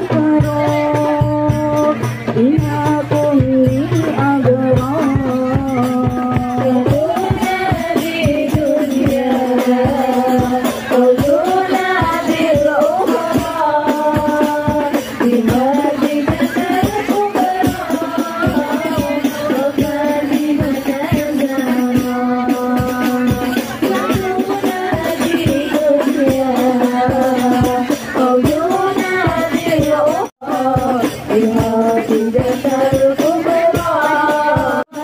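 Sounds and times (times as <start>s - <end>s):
hand percussion with jingle: 0.0s - 35.0s
person singing devotional song: 0.0s - 35.0s.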